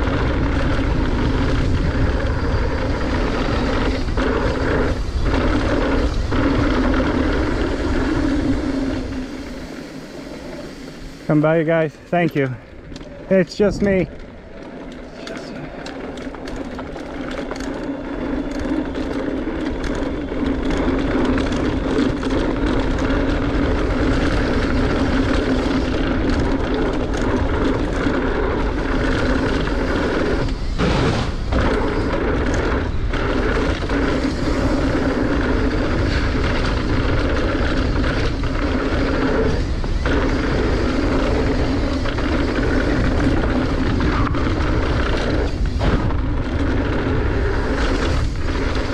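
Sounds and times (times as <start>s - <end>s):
bike tyre noise and rattles: 0.0s - 48.9s
wind rush on microphone: 0.0s - 48.9s.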